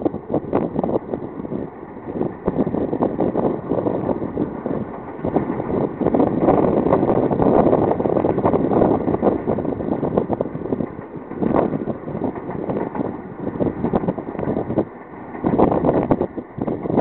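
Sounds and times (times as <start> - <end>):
electric train running past: 0.0 - 17.0
wind buffeting microphone: 0.0 - 17.0.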